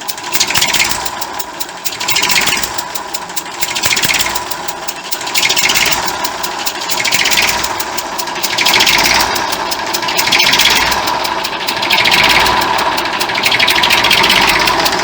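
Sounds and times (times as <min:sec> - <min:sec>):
diesel engine clattering: 0:00.0 - 0:15.0.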